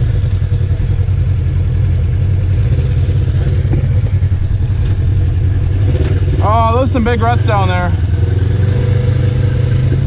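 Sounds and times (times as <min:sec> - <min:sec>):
vehicle engine rumbling at low speed: 0:00.0 - 0:10.0.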